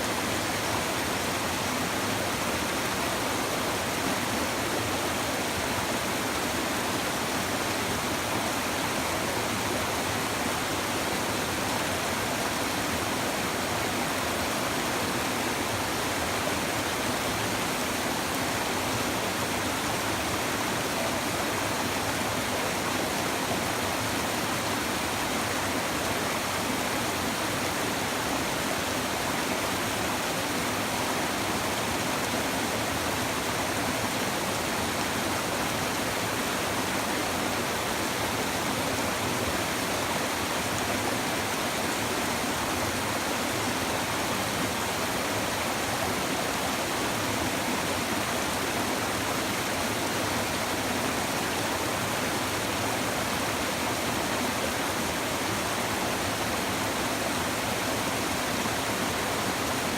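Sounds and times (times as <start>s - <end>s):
river water babbling over rocks: 0.0s - 59.9s.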